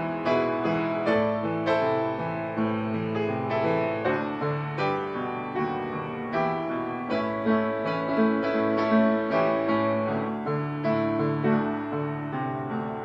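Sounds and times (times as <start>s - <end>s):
jazz solo piano: 0.0s - 13.0s.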